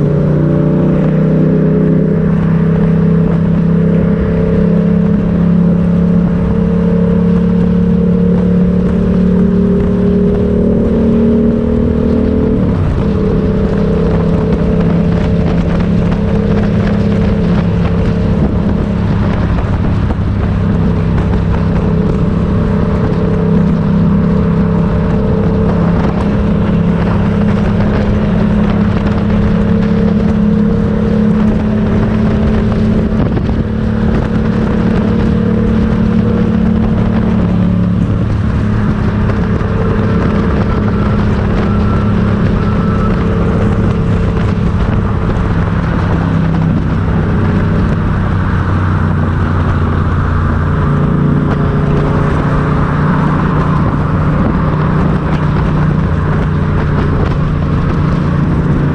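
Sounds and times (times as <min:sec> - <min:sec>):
motorcycle engine running: 0:00.0 - 0:58.9
road noise: 0:00.0 - 0:58.9.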